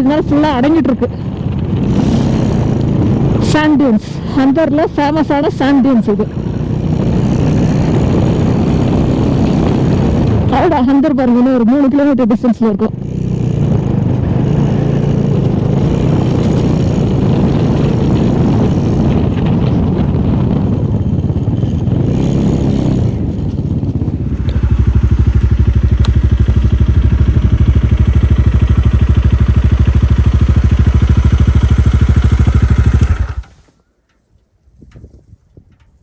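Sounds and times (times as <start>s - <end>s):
wind rushing over microphone: 0.0s - 11.4s, 12.9s - 33.6s, 34.6s - 36.0s
motorcycle engine running: 0.0s - 33.8s.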